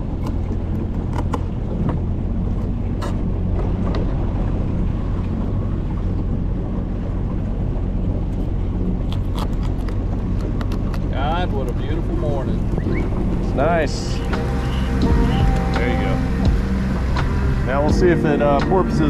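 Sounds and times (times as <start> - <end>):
outboard motor humming: 0.0 - 19.0.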